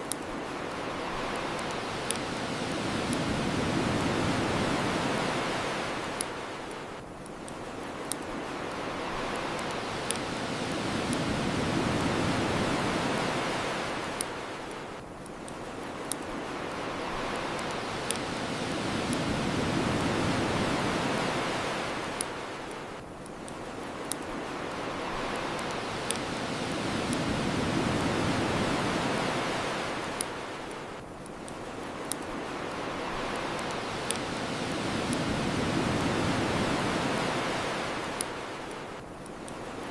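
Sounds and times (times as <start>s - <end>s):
bonfire crackling: 0.0s - 39.9s
ocean waves on shore: 0.0s - 39.9s.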